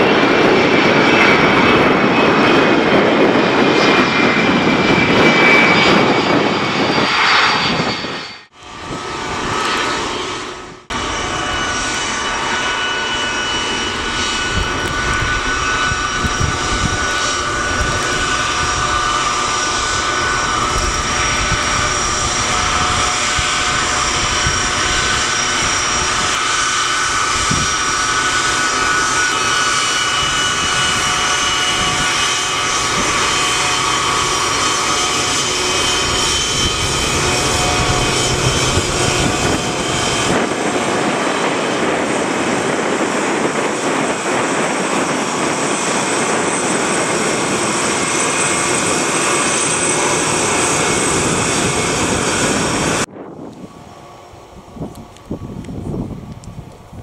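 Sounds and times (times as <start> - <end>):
jet rolling along runway: 0.0 - 57.0.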